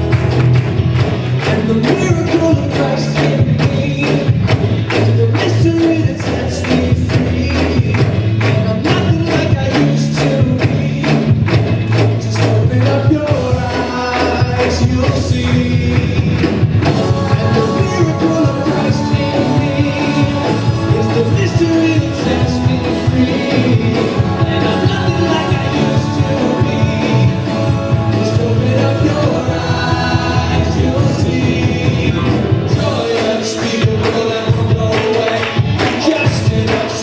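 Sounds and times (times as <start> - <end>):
live band playing worship song: 0.0 - 37.0
steady drum beat: 0.0 - 37.0.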